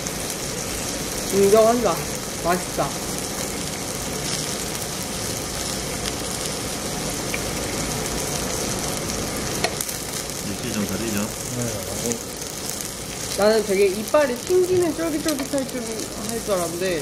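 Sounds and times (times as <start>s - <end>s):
crackles and pops: 0.0s - 17.0s
pork sizzling on a grill: 0.0s - 17.0s.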